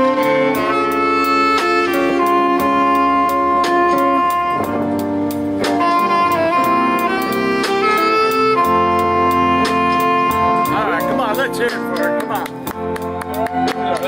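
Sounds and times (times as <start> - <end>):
saxophone melody: 0.0 - 13.7
backing chords: 0.0 - 14.0.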